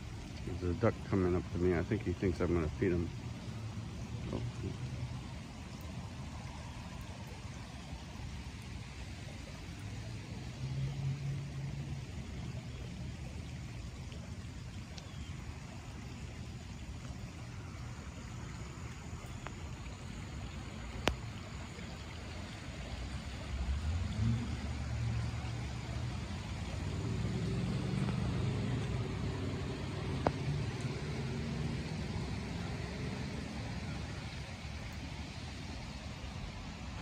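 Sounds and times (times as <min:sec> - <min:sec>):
light rain falling on a pond: 0:00.0 - 0:37.0
low engine rumble: 0:00.0 - 0:37.0.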